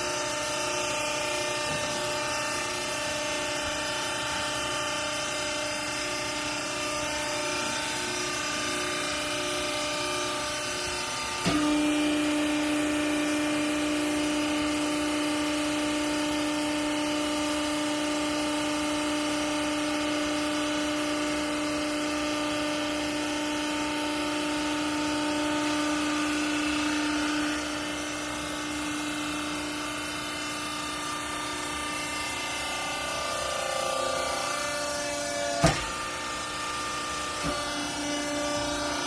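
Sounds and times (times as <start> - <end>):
baler machine whine: 0.0 - 39.0.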